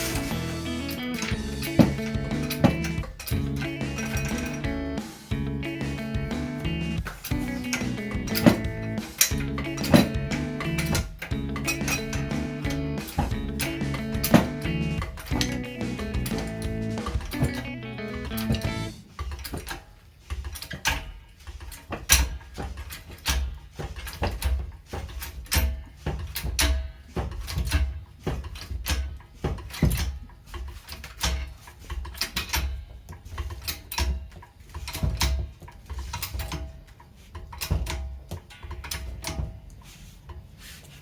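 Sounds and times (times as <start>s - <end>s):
metal tools clinking: 0.0s - 4.7s, 7.0s - 39.8s.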